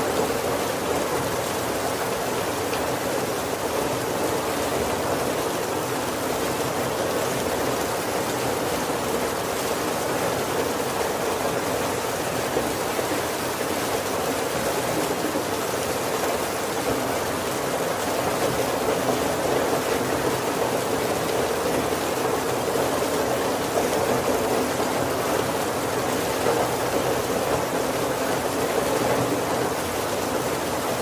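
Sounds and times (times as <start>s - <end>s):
heavy rain on a wooden roof: 0.0s - 31.0s.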